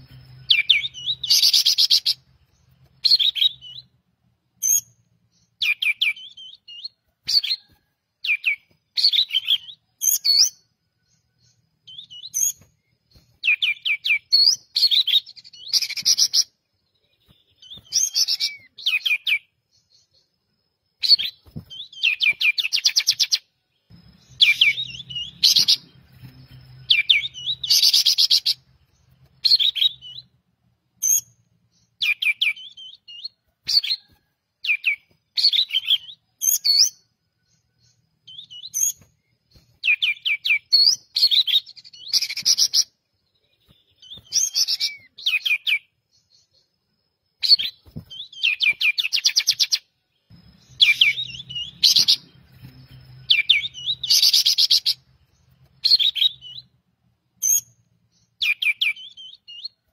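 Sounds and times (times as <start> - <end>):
bird singing trills and whistles: 0.0 - 4.0, 4.6 - 20.3, 21.0 - 30.3, 31.0 - 46.7, 47.4 - 56.8, 57.4 - 59.9.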